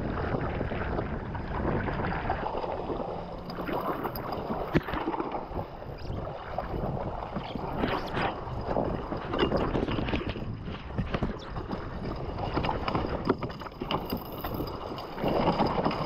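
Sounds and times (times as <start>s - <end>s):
sea water sloshing against hull: 0.0s - 16.0s
wind buffeting microphone: 0.0s - 16.0s.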